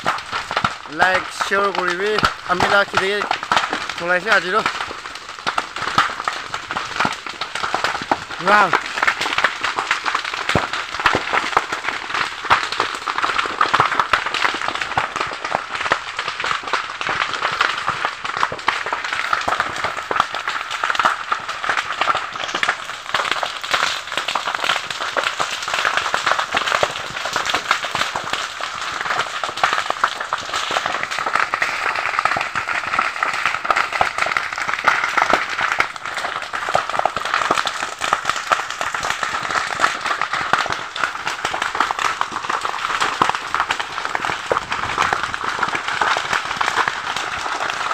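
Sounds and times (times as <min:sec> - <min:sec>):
grass fire crackling and popping: 0:00.0 - 0:47.9.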